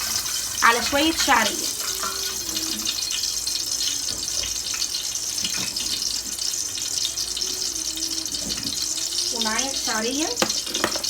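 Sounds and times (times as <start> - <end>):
faint crackles: 0.0 - 11.0
oil sizzling in a pot: 0.0 - 11.0.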